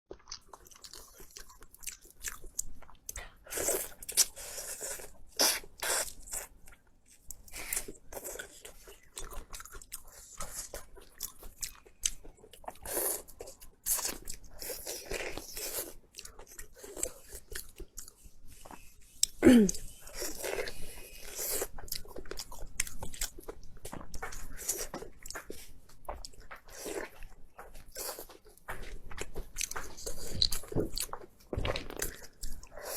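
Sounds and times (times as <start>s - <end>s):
person chewing crunchy food: 0.1s - 32.9s.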